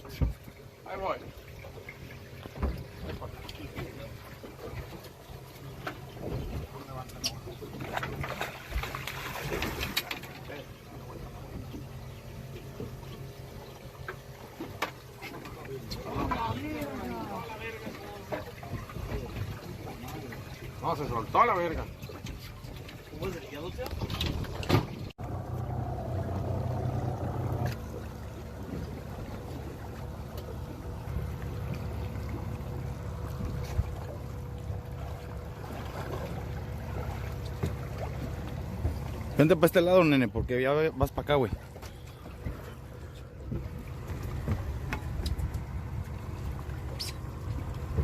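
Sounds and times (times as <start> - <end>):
outboard motor running: 0.0 - 48.0
water noise: 0.0 - 48.0.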